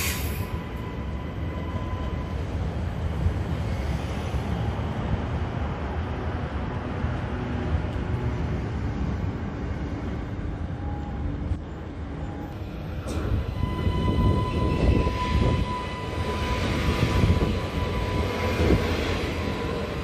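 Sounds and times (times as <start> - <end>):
electric train passing: 0.0 - 20.0
train wheels rumbling on rails: 0.0 - 20.0.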